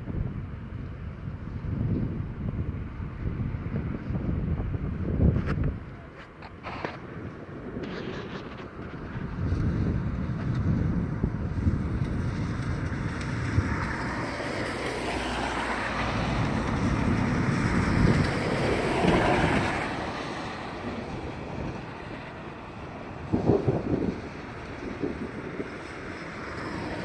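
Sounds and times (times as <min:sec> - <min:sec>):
wind blowing across microphone: 0:00.0 - 0:27.0.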